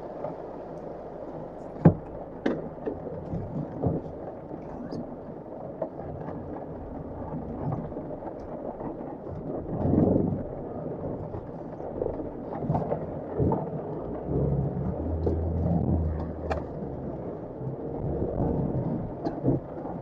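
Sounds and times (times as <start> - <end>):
engine running low: 0.0 - 20.0
heavy rain on windscreen: 0.0 - 20.0
heavy rumble: 0.0 - 20.0.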